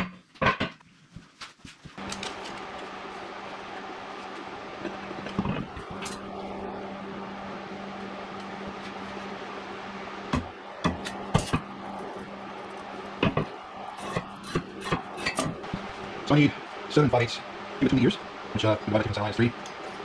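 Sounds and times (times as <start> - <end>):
steady low hum: 1.8 - 20.0.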